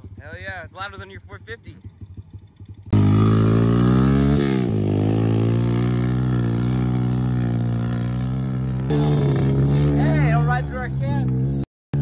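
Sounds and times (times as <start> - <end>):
motorbike engine running: 0.0 - 10.6.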